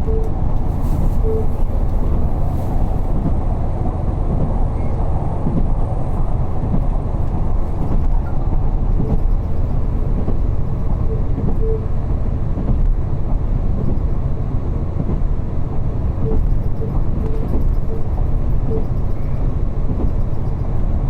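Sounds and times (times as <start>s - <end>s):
diesel train rumbling: 0.0s - 21.0s.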